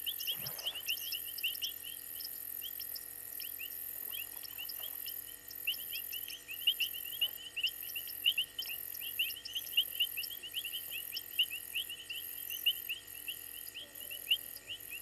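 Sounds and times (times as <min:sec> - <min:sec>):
insects and frogs calling: 0:00.0 - 0:15.0.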